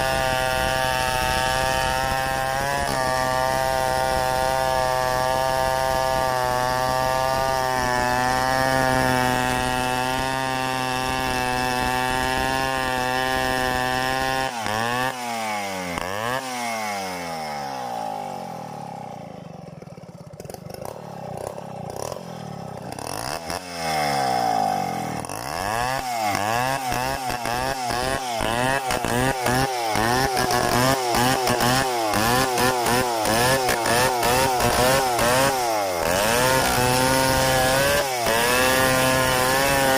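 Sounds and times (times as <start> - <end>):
chainsaw running under load: 0.0 - 39.9.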